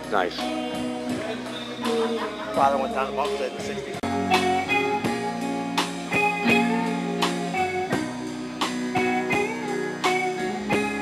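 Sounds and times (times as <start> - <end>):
live blues band: 0.0 - 11.0
electric guitar bent notes: 0.4 - 11.0.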